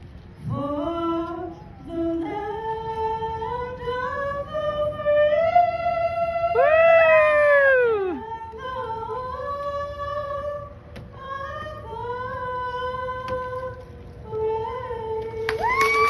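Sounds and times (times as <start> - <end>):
woman singing into a microphone: 0.4 - 16.0.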